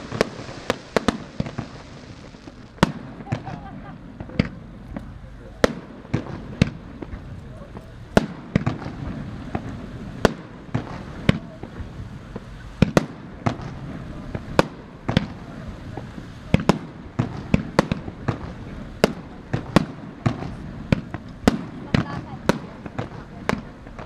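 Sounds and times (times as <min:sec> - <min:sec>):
background rumble: 0:00.0 - 0:24.0
fireworks bursting: 0:00.0 - 0:24.0.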